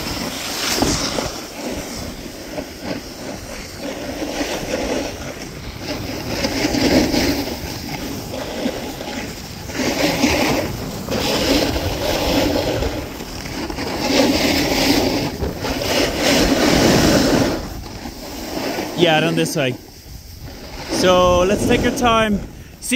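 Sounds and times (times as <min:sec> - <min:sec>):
skis scraping on hard snow: 0:00.0 - 0:22.9
wind on microphone: 0:00.0 - 0:22.9.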